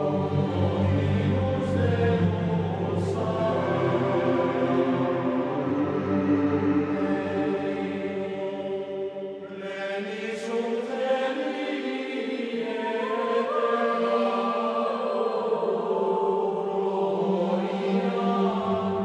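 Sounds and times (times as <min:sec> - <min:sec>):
slow choral chant: 0:00.0 - 0:19.0.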